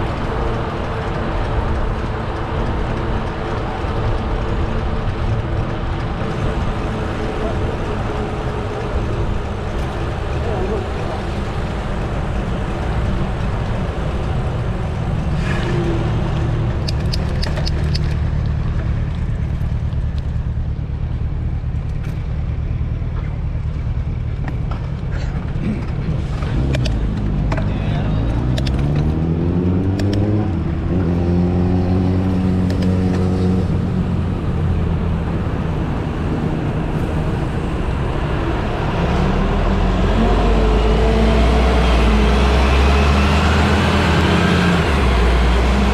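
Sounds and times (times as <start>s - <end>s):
traffic engine rumble: 0.0s - 45.9s
vehicle engine accelerating: 0.0s - 45.9s.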